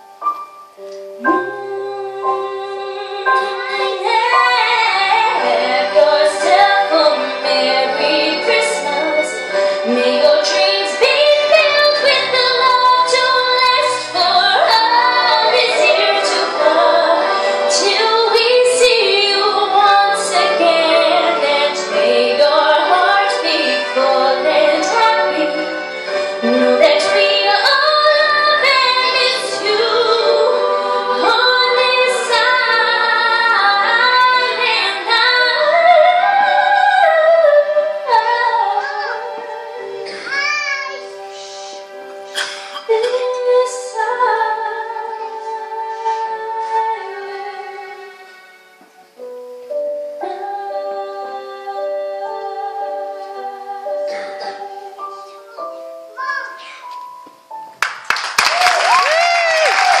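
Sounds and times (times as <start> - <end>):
instrumental accompaniment: 0.0 - 58.2
girl singing into a microphone: 1.2 - 41.5, 42.8 - 48.6, 50.2 - 56.9.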